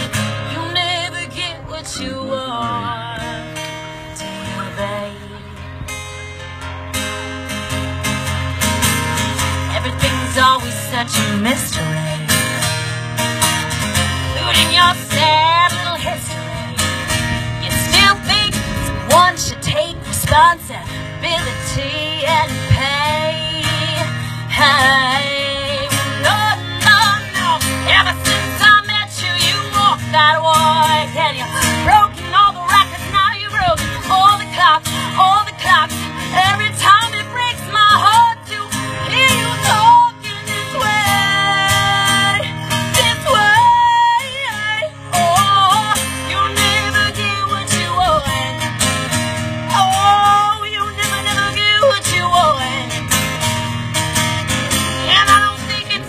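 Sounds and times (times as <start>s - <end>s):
woman singing: 0.0s - 5.8s, 9.3s - 12.7s, 14.2s - 53.1s, 54.9s - 56.0s
acoustic guitar: 0.0s - 56.0s.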